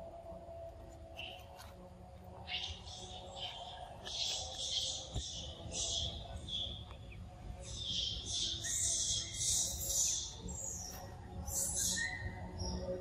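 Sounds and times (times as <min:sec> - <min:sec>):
birds chirping: 0:02.4 - 0:13.0.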